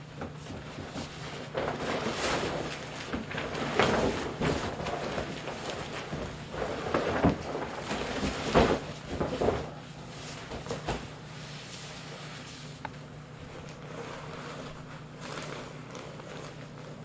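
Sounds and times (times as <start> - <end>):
vinyl crinkling and rustling: 0.0 - 17.0.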